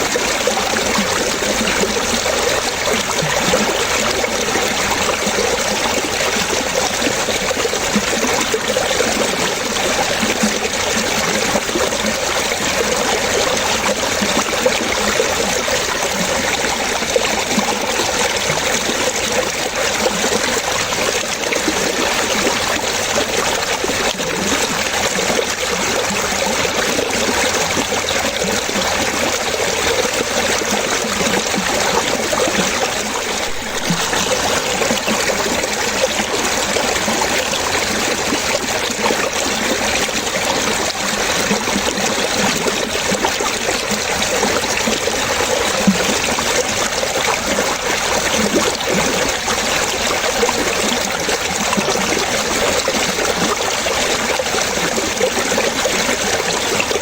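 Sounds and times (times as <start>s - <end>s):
stream water splashing and trickling: 0.0s - 57.0s.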